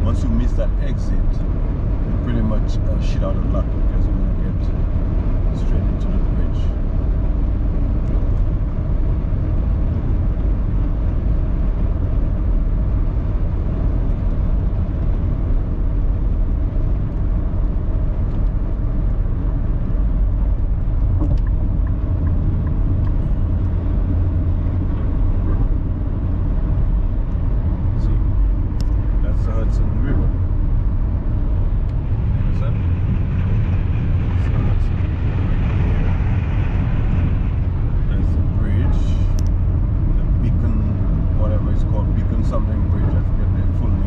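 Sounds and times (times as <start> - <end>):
car cruising engine and tyre noise: 0.0 - 44.0.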